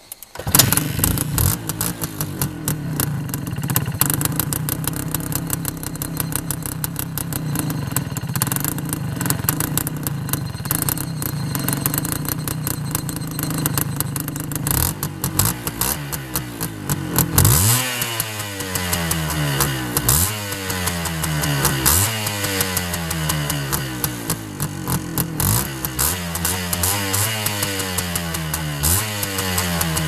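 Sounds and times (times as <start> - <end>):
motorcycle engine idling and revving: 0.2 - 30.0.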